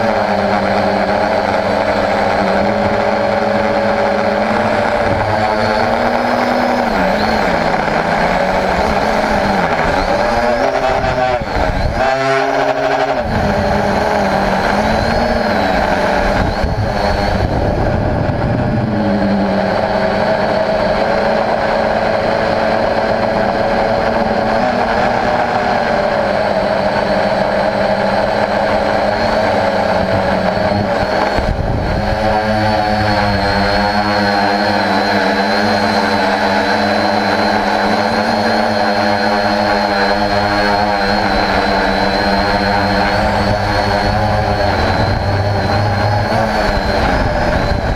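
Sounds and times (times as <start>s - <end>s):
quadcopter motors buzzing: 0.0s - 47.9s.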